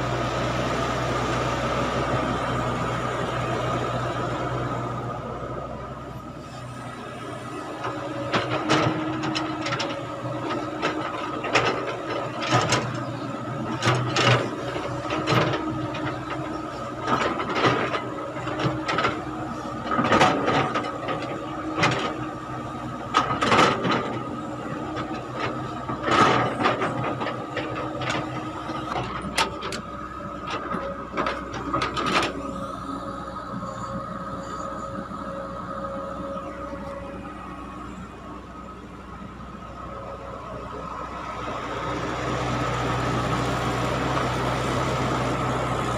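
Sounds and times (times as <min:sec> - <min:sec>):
excavator engine whining: 0:00.0 - 0:45.9.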